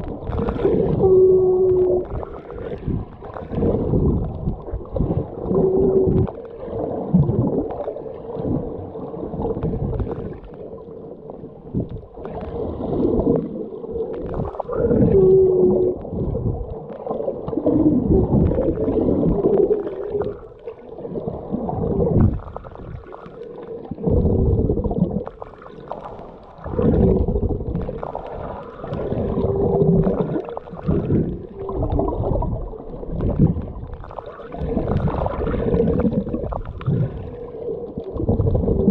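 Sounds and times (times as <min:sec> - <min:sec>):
underwater water rushing and gurgling: 0:00.0 - 0:38.9.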